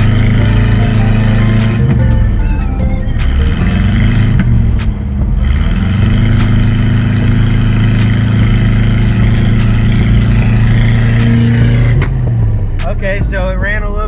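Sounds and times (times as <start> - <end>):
engine pulling under load: 0.0 - 14.0.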